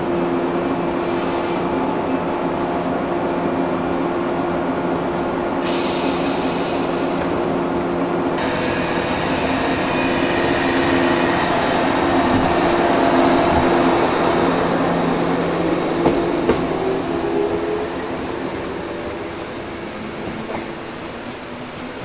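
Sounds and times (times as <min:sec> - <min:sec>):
electric train rolling past: 0:00.0 - 0:22.0.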